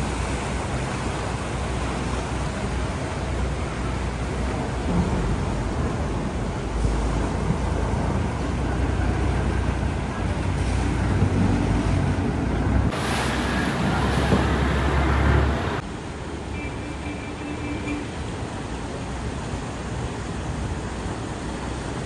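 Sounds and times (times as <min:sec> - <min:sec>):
rush of water and wind: 0:00.0 - 0:22.0
water rushing past hull: 0:00.0 - 0:22.0.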